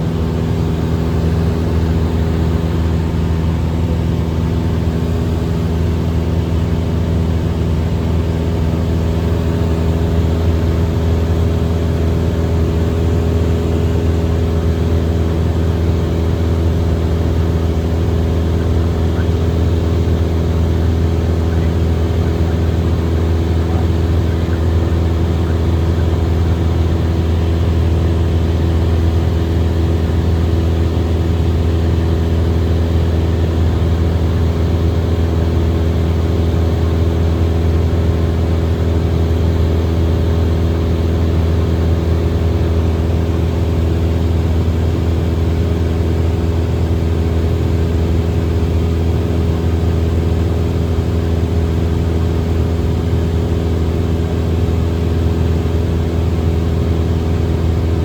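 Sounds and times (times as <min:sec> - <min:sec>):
airplane engine droning in cockpit: 0:00.0 - 0:58.0.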